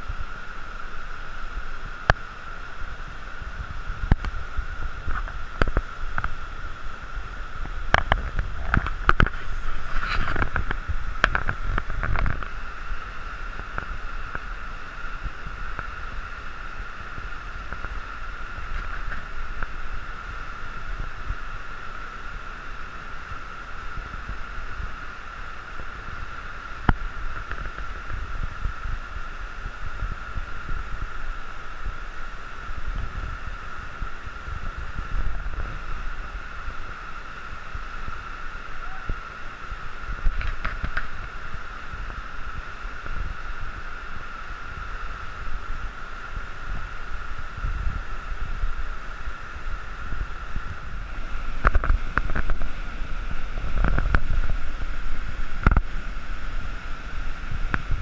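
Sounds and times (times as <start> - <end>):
whitewater rushing over boulders: 0.0 - 58.0.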